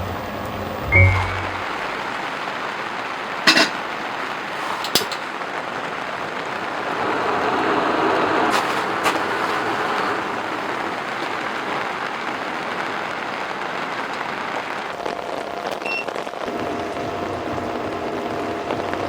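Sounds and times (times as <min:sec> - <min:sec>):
heavy rain on a tent: 0:01.8 - 0:19.0.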